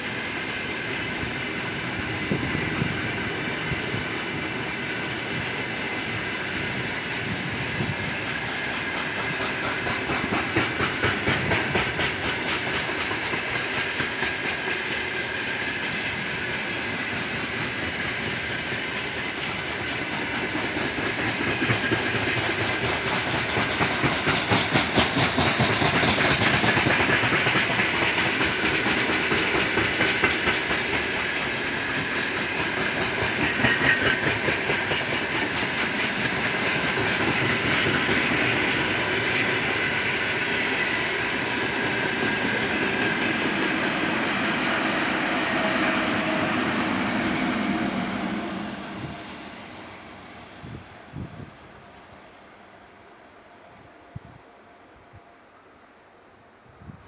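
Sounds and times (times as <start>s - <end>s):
train wheels clattering over rail joints: 0.0s - 47.5s
train rolling rumble: 0.0s - 57.0s.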